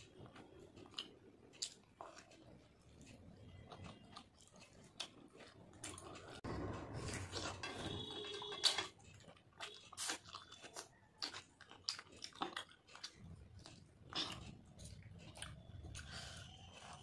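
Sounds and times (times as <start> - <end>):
chewing and wet mouth clicks: 0.2 - 17.0.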